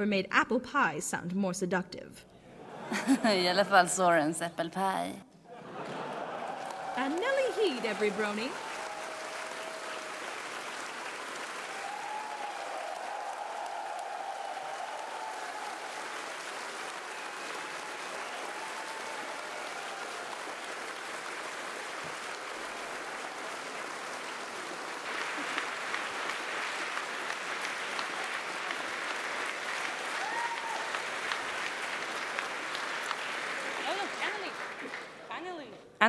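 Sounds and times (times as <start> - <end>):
audience applauding: 5.5 - 35.6.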